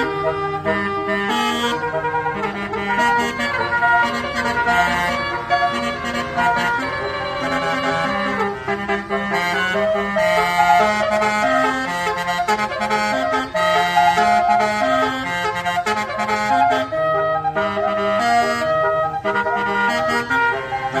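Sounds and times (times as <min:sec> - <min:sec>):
musical air horn playing a tune: 0:00.0 - 0:21.0.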